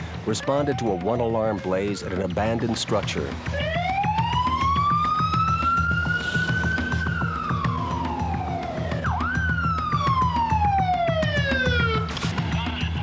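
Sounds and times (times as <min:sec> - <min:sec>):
fire truck siren wailing: 0:00.1 - 0:02.2, 0:03.4 - 0:12.2.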